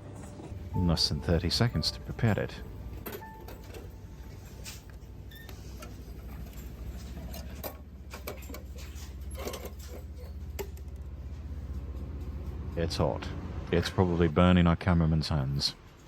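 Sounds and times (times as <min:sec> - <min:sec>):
vending machine humming: 0:00.0 - 0:14.3.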